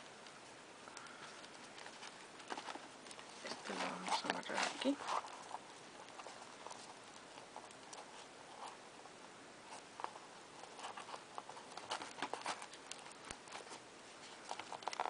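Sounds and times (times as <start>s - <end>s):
soft paper rustles: 0.1s - 8.8s, 9.6s - 15.0s.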